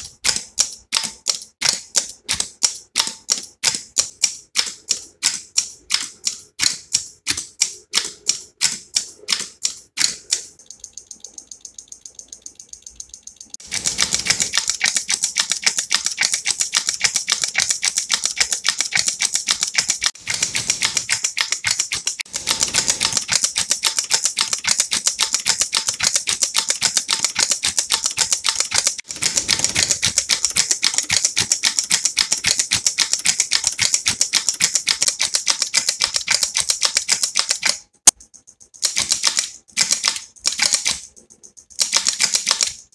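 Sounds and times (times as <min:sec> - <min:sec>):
relays clicking: 0:00.0 - 0:42.9.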